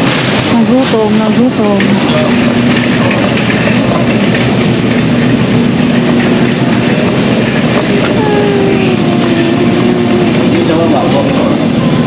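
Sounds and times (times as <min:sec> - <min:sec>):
cart wheels rattling on tiles: 0:00.0 - 0:12.0.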